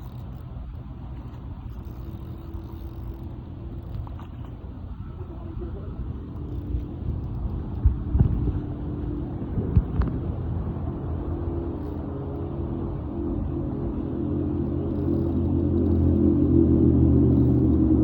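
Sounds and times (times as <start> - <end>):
faint steady hum: 0.0 - 18.0
low rumble: 0.0 - 18.0.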